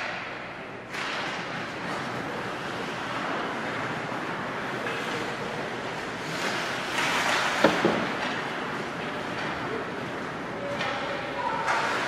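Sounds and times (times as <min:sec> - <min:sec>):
ice hockey rink din: 0:00.0 - 0:12.0.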